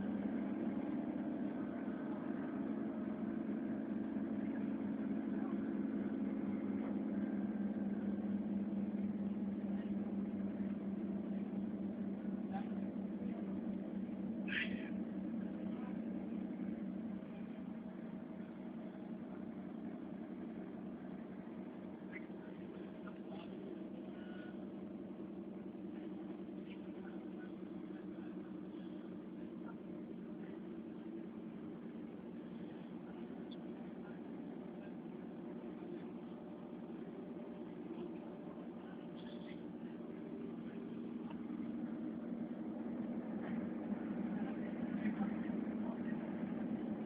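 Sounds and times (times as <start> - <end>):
train rumbling: 0.0 - 47.0
transit vehicle hum: 0.0 - 47.0.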